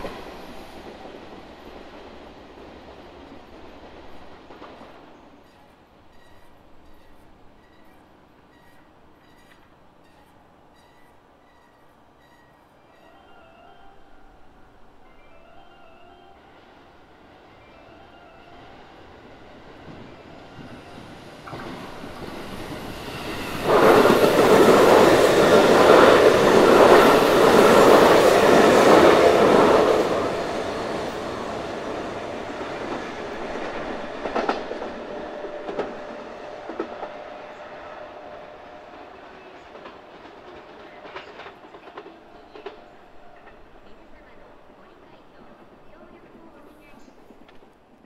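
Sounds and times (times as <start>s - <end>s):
electric train passing: 0.0s - 48.0s.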